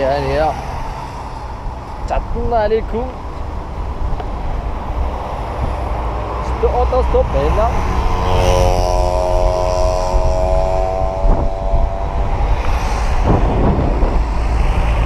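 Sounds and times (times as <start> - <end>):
roadside traffic: 0.0 - 15.0
wind on microphone: 0.0 - 15.0.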